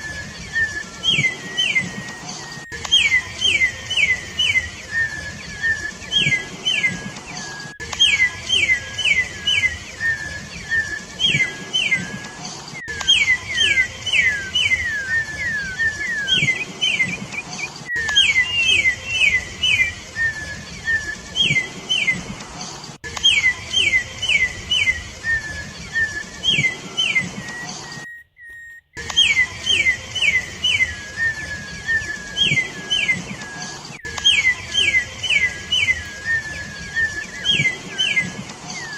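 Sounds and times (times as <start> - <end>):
bird singing sharp whistled notes: 0.0 - 22.3, 23.0 - 38.9.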